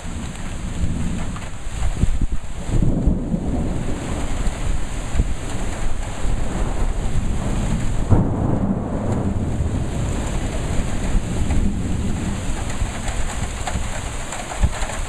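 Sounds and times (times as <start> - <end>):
low thunder rumbling: 0.0 - 15.0
steady rain falling: 0.0 - 15.0.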